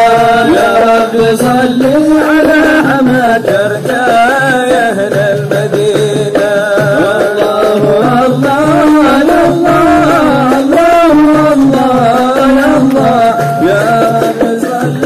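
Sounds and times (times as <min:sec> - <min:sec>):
hand drums beating: 0:00.0 - 0:15.0.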